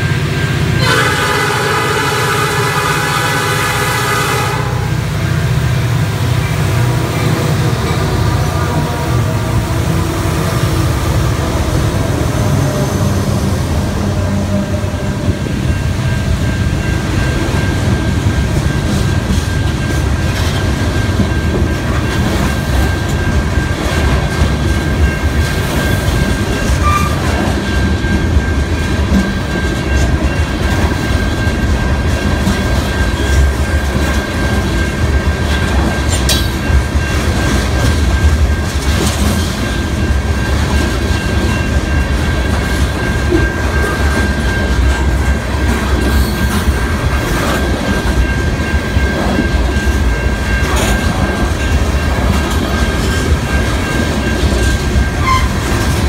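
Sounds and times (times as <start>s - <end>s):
diesel locomotive engine: 0.0s - 56.0s
freight cars rumbling: 0.0s - 56.0s.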